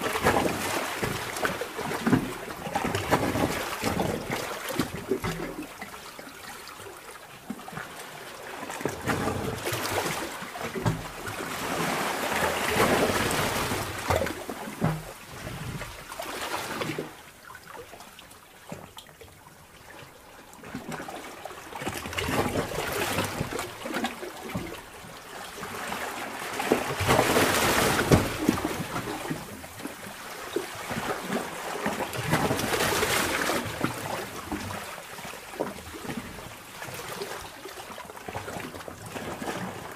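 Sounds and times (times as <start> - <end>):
sea water sloshing in a cave: 0.0 - 39.9.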